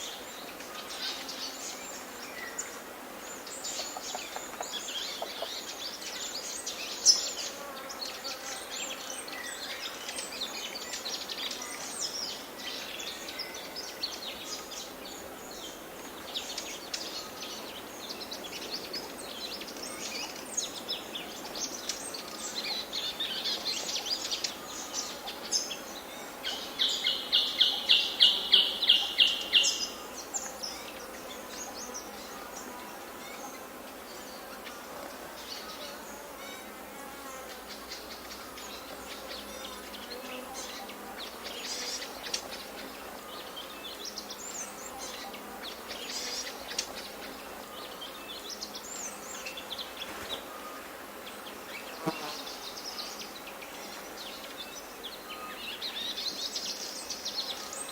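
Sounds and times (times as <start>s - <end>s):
birds singing and calling: 0.0s - 57.9s.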